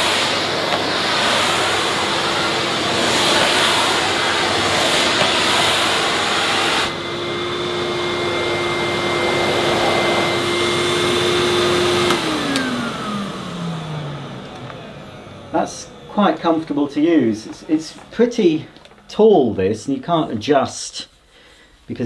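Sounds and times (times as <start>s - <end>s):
vacuum cleaner running on carpet: 0.0s - 19.9s.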